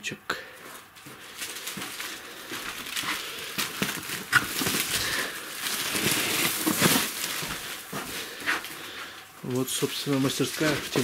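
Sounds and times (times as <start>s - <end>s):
rustling and handling noise: 0.5s - 11.0s.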